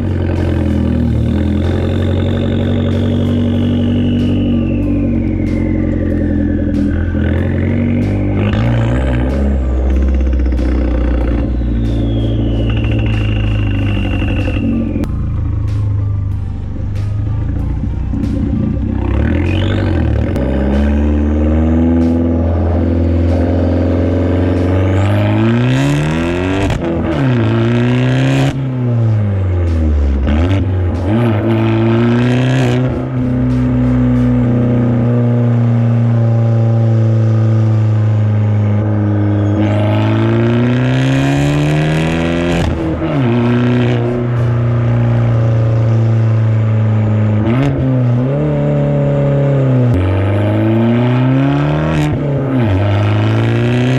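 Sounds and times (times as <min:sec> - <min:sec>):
loud car engine revving: 0:00.0 - 0:53.9.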